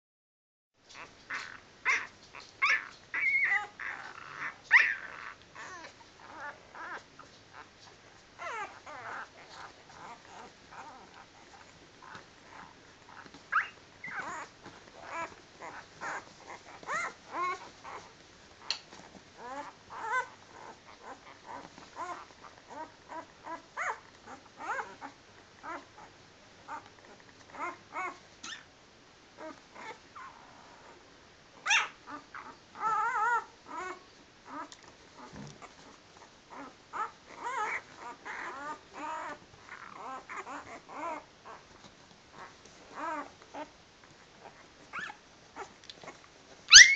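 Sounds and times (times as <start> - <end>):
puppies whining: 0.9 - 7.7, 8.4 - 28.7, 31.6 - 46.9
puppies whimpering and squeaking: 0.9 - 26.1, 26.7 - 28.7, 31.6 - 43.8, 44.4 - 46.9.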